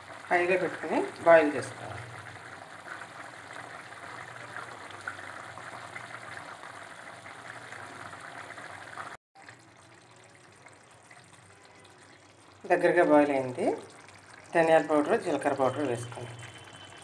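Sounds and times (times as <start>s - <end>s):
curry bubbling and popping: 0.0s - 17.0s.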